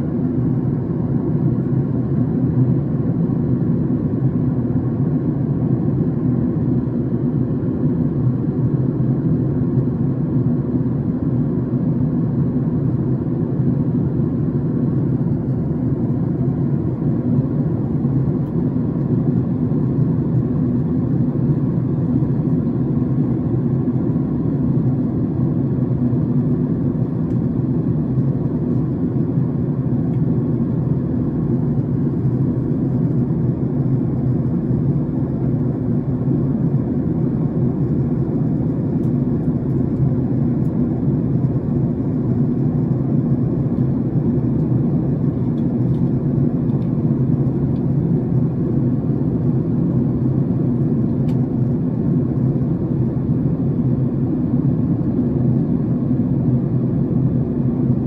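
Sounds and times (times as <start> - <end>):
jet cabin drone: 0.0 - 58.0.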